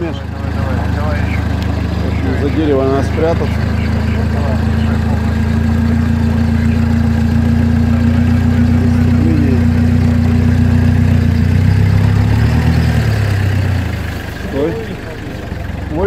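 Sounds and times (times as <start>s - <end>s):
vehicle engine running under load: 0.0s - 16.0s.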